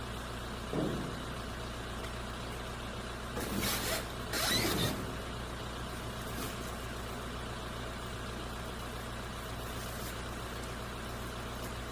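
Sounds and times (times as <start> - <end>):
low mechanical hum: 0.0 - 11.9.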